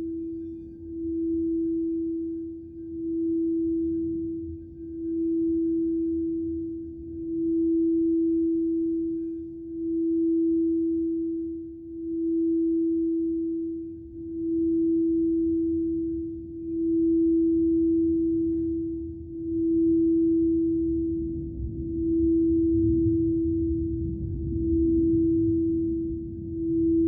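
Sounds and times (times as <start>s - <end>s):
crystal singing bowl ringing: 0.0s - 27.0s.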